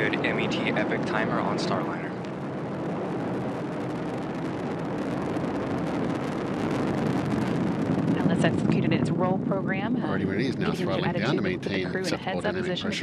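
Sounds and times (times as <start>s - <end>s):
rocket crackling rumble: 0.0s - 13.0s.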